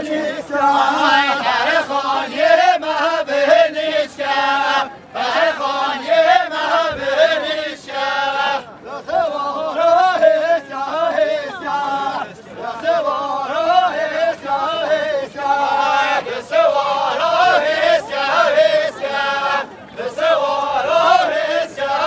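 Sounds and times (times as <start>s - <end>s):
men singing unaccompanied: 0.0s - 22.0s.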